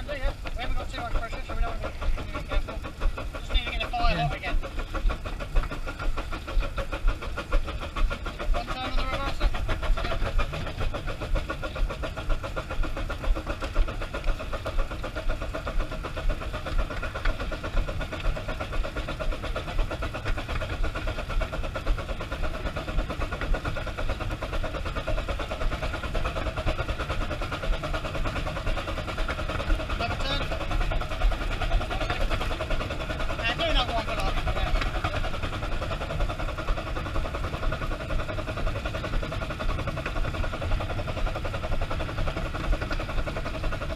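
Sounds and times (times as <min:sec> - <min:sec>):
steam locomotive running: 0:00.0 - 0:43.9.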